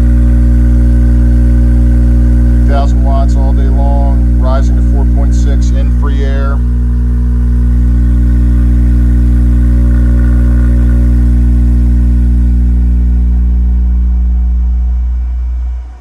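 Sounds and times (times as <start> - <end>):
subwoofer low test tone: 0.0 - 16.0.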